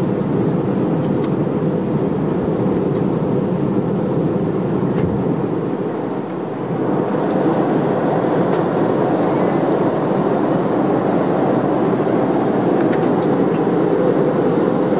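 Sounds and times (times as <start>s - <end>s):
airliner cabin noise: 0.0s - 14.9s.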